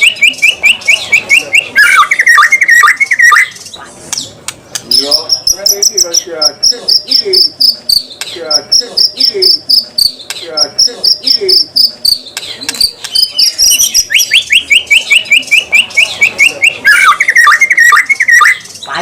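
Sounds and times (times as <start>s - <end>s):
bird singing harsh rapid phrases: 0.0s - 19.0s.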